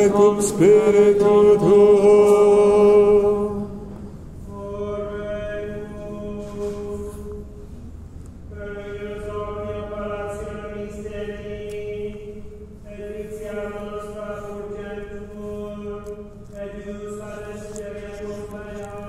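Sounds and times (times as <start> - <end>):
person chanting in reverberant church: 0.0 - 19.0.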